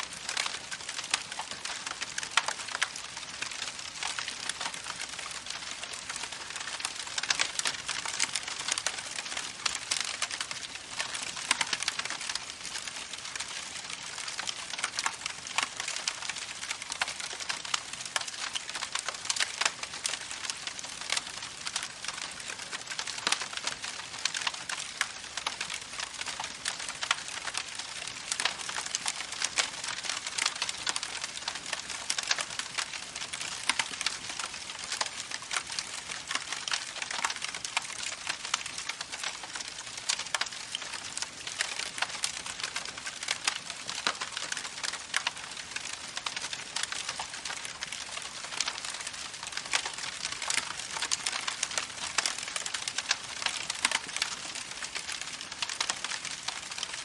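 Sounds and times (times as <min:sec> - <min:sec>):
campfire crackling and popping: 0:00.1 - 0:57.0.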